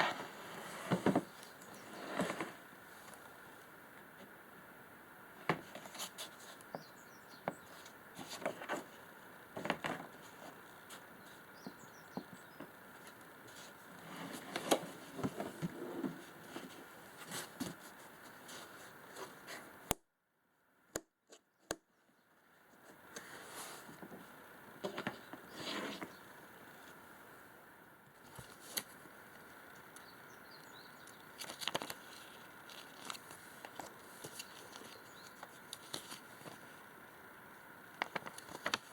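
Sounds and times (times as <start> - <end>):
faint room noise: 0.0 - 38.9.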